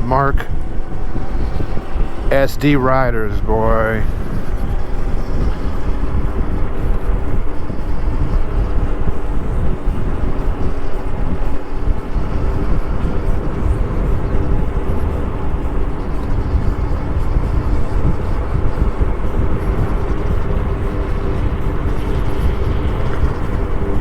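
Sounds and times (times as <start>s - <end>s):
faint steady hum: 0.0s - 24.0s
wind buffeting microphone: 0.0s - 24.0s.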